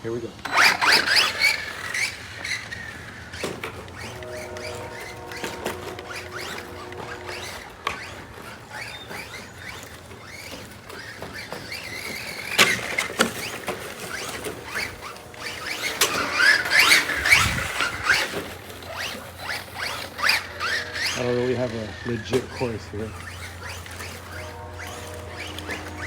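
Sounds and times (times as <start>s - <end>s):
electric motor whining: 0.3s - 26.0s.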